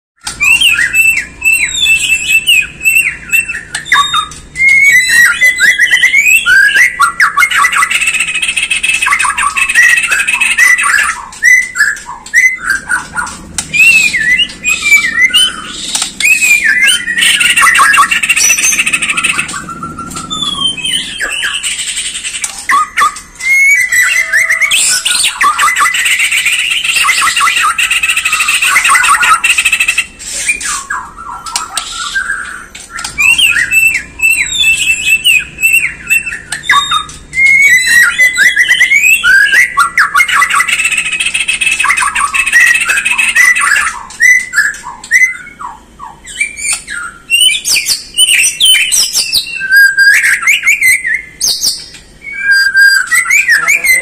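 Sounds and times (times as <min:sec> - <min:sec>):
songbird singing whistles: 0:00.2 - 0:54.0.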